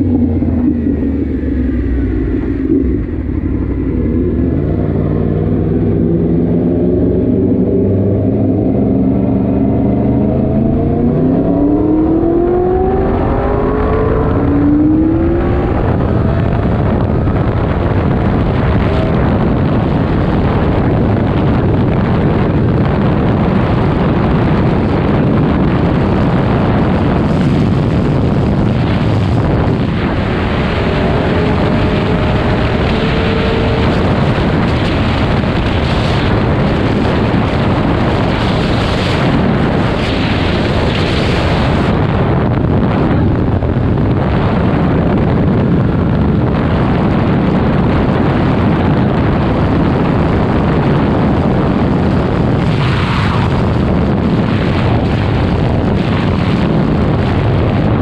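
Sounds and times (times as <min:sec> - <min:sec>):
motorcycle engine running hard: 0:00.0 - 0:58.0
wind buffeting microphone: 0:00.0 - 0:58.0.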